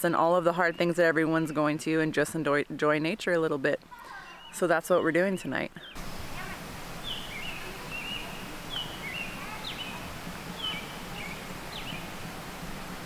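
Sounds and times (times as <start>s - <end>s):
songbird chirping: 0.0s - 12.5s
outdoor ambience hiss: 0.0s - 13.0s.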